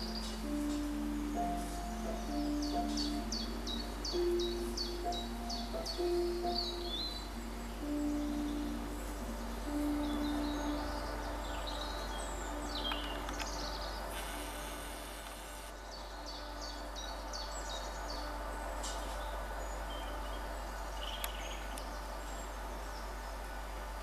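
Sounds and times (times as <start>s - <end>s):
songbirds chirping and singing: 0.0s - 24.0s
steady outdoor hiss: 0.0s - 24.0s.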